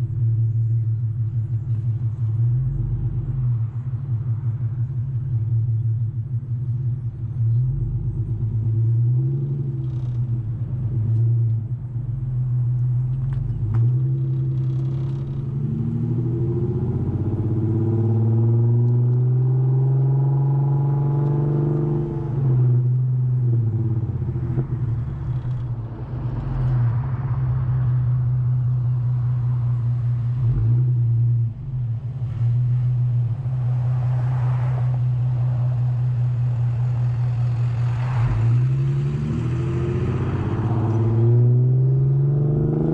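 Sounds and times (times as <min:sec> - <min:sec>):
car exhaust drone: 0:00.0 - 0:42.9.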